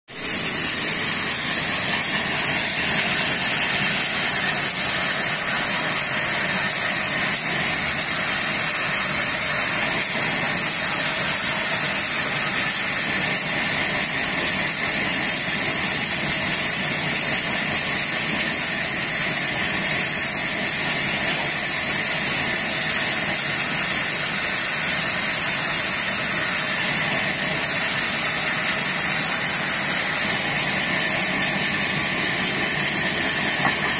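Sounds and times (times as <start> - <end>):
band saw cutting log: 0.1 - 33.9.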